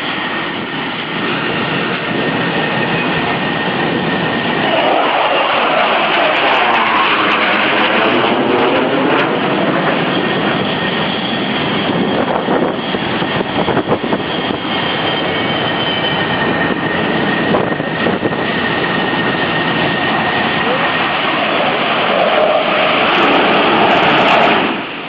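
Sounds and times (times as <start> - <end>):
jet engines running: 0.0 - 25.0
sweeping phasing sound: 2.7 - 25.0.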